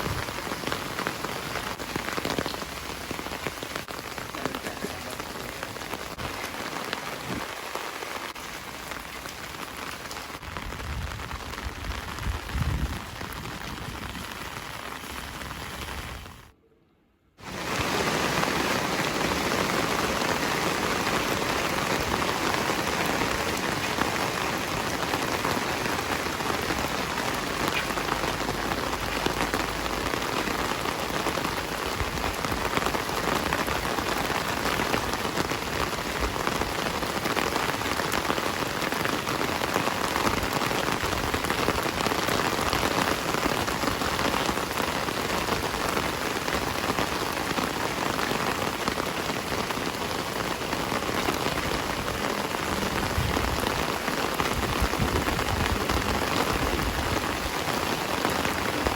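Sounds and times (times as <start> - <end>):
heavy rain falling: 0.0 - 16.5, 17.4 - 58.9.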